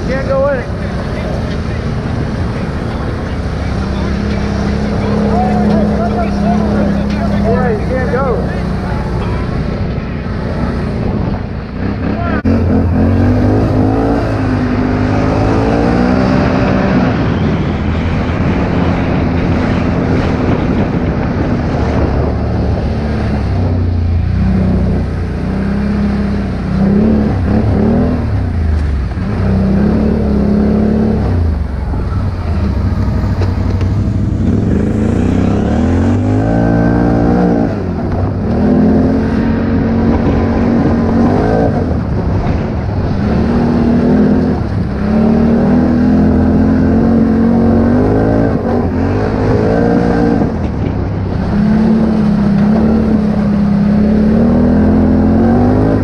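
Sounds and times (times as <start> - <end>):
atv engine revving: 0.0 - 56.0
wind noise: 0.0 - 56.0.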